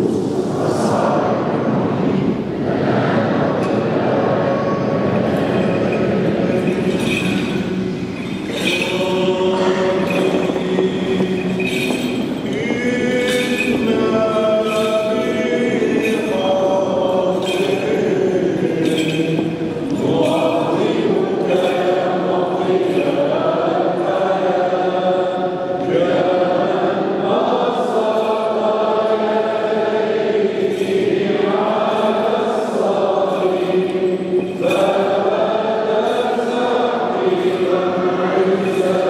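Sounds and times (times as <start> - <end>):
voices singing liturgical chant: 0.0 - 39.0.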